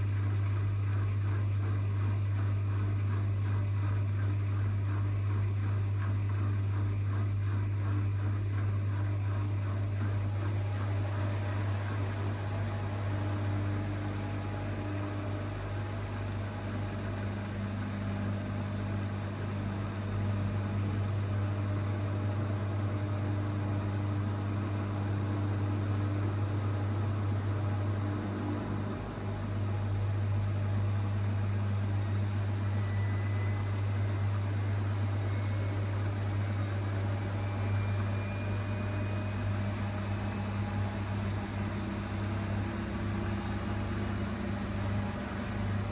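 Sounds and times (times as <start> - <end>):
washing machine spinning: 0.0 - 45.9.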